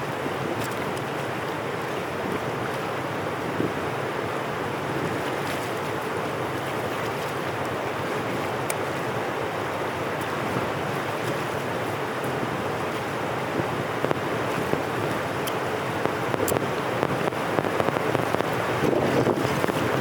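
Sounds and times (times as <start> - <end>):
rainwater rushing through channel: 0.0 - 20.0.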